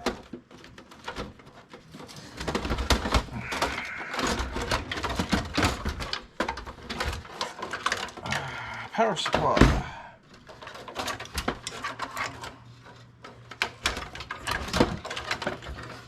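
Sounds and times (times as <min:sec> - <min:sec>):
metal clanks and rattles: 0:00.0 - 0:08.5, 0:09.2 - 0:16.0.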